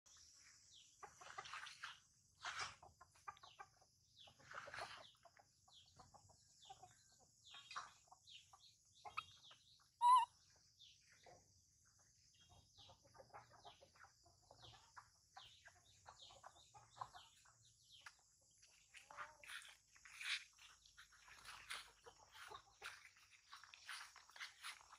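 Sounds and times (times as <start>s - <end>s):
chickens clucking: 0.7s - 24.9s.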